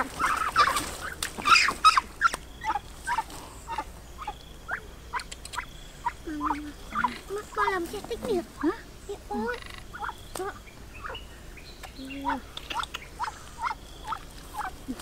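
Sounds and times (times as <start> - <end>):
duck calling: 0.0 - 7.7, 8.5 - 11.4, 12.2 - 15.0.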